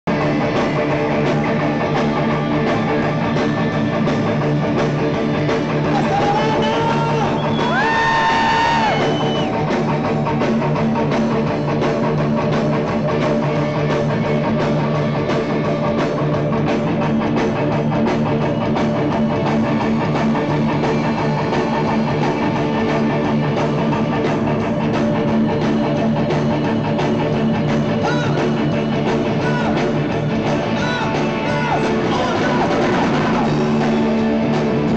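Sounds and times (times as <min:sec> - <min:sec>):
live rock band: 0:00.1 - 0:34.9.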